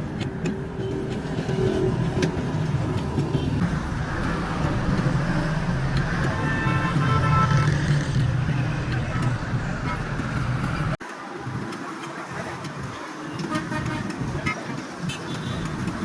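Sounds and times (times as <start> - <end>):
roadside traffic noise: 0.0 - 16.0.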